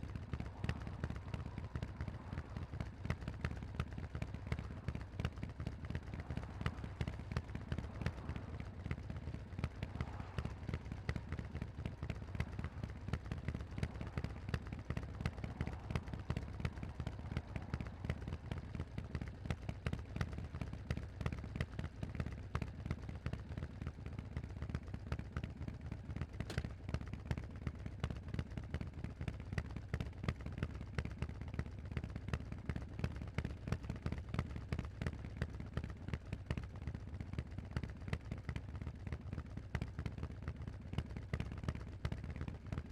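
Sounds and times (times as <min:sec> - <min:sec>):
motorcycle engine exhaust pulses: 0:00.0 - 0:42.9.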